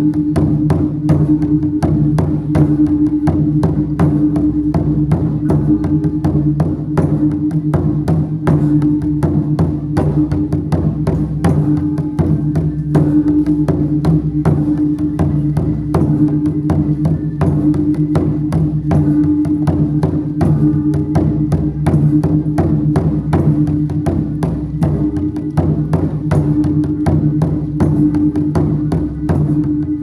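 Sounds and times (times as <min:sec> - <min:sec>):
drum and gong beat: 0:00.0 - 0:30.0.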